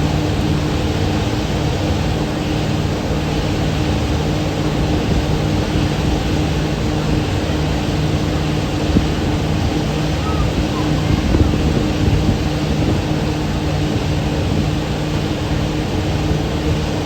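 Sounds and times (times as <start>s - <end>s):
boat engines droning: 0.0s - 17.0s
rushing water noise: 0.0s - 17.0s.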